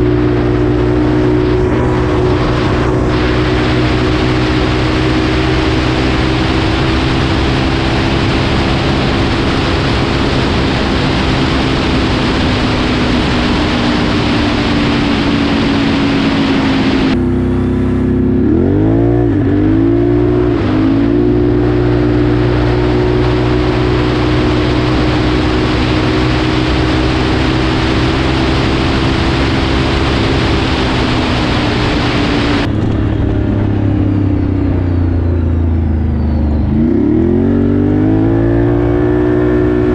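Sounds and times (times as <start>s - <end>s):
wind rush on microphone: 0.0s - 17.2s, 18.8s - 39.9s
engine running at high revs: 0.0s - 39.9s.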